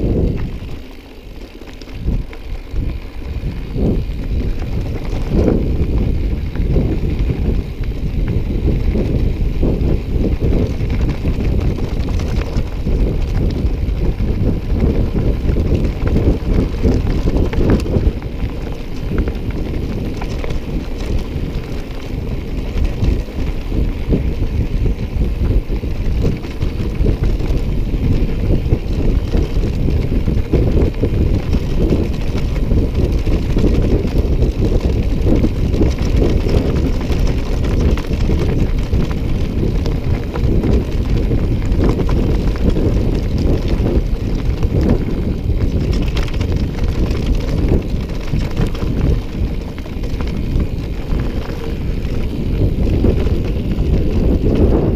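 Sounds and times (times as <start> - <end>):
bicycle rattling over rough track: 0.0 - 54.9
wind buffeting microphone: 0.0 - 54.9.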